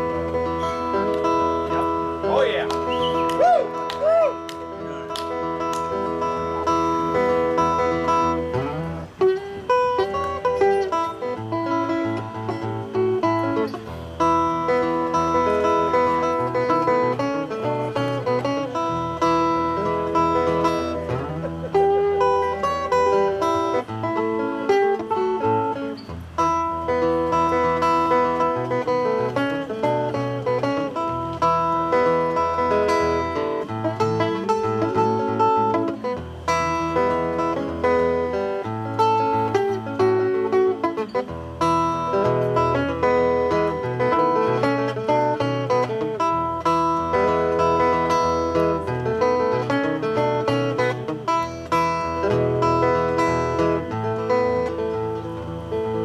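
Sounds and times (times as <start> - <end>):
acoustic guitar folk tune: 0.0 - 56.0.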